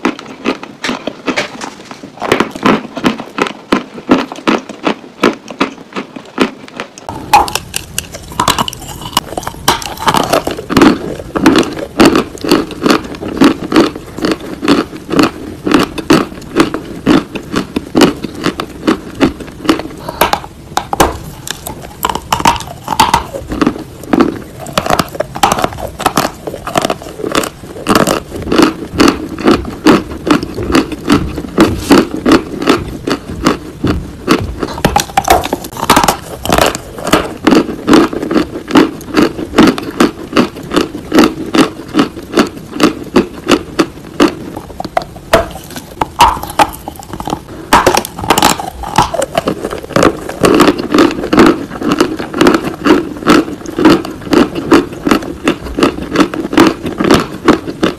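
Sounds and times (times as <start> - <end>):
crunchy chewing: 0.0 - 57.9.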